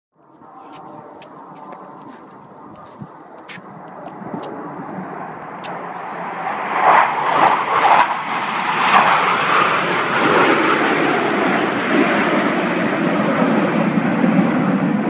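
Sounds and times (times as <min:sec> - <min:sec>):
jets flying past overhead: 0:00.2 - 0:15.0.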